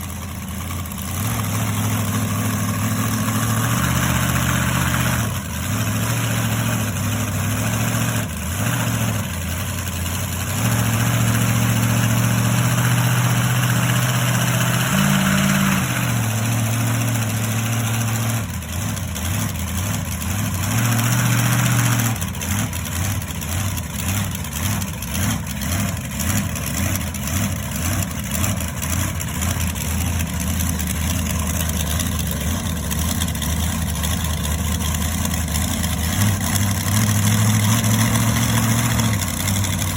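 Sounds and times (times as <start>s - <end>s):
monster truck engine running: 0.0s - 39.9s.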